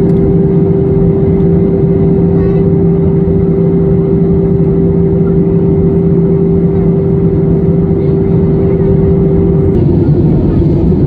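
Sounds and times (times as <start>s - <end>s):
aircraft cabin engine drone: 0.0s - 11.0s
constant airflow rush: 0.0s - 11.0s
higher hum: 0.0s - 11.0s
low hum: 0.0s - 11.0s.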